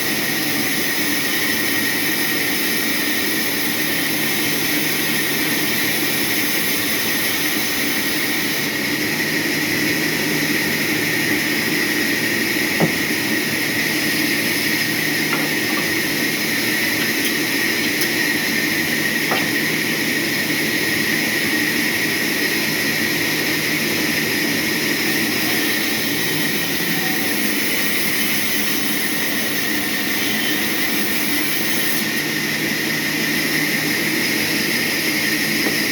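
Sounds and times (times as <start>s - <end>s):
sawmill machinery running: 0.0s - 35.9s.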